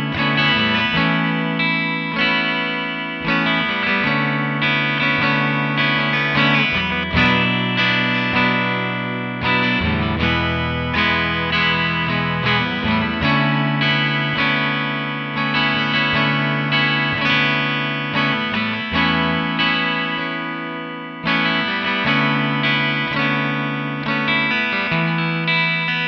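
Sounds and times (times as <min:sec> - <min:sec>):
clean electric guitar chords: 0:00.0 - 0:26.0.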